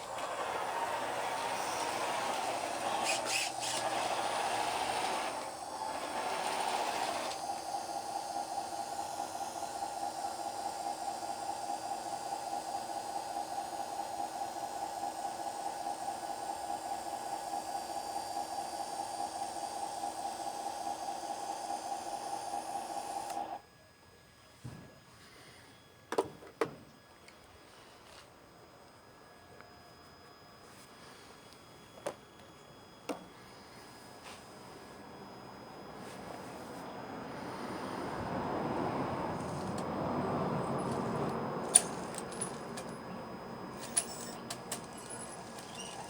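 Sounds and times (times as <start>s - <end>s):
small electric motor whining: 0.0s - 23.6s, 27.2s - 46.0s.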